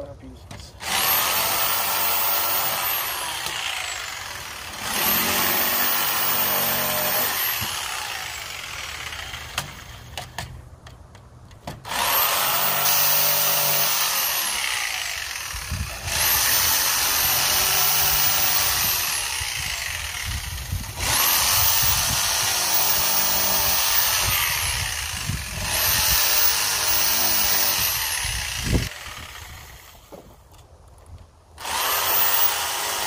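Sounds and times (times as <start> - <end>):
jigsaw cutting wood: 0.8 - 10.1, 11.9 - 30.1, 31.6 - 33.0.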